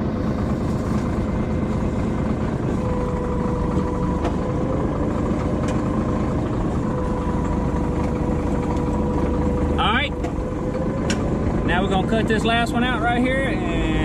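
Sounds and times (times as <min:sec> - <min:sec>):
bulldozer diesel engine idling: 0:00.0 - 0:14.0.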